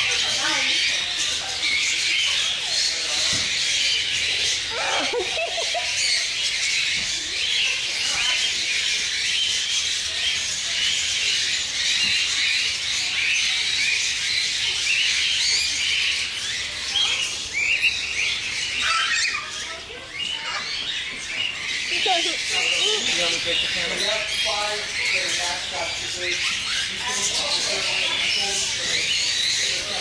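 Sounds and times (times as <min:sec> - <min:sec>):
birds chattering and chirping: 0:00.0 - 0:30.0.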